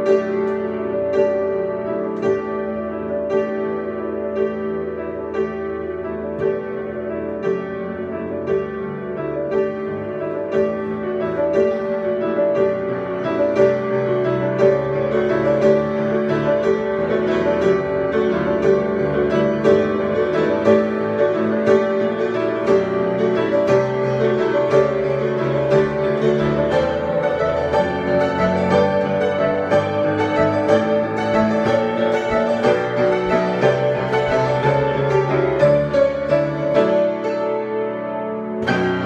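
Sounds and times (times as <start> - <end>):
piano chords and melody: 0.0 - 39.0.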